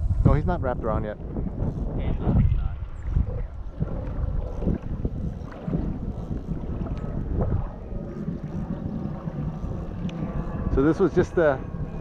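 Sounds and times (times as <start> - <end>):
wind buffeting microphone: 0.0 - 12.0
water lapping against hull: 0.6 - 12.0.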